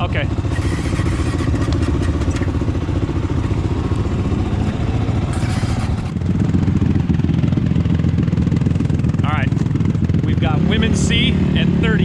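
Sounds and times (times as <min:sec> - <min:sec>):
atv engines running: 0:00.0 - 0:12.0.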